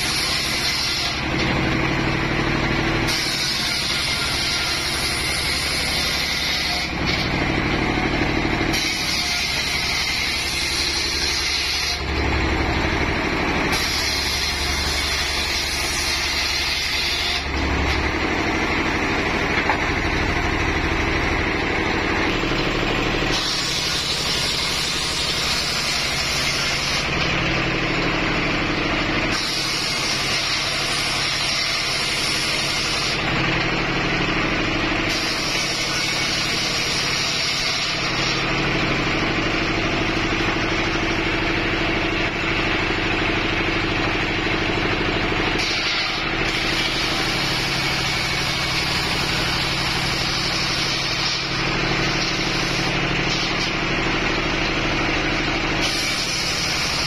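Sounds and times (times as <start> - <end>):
saw blade cutting logs: 0.0 - 57.0
sawmill engine running: 0.0 - 57.0.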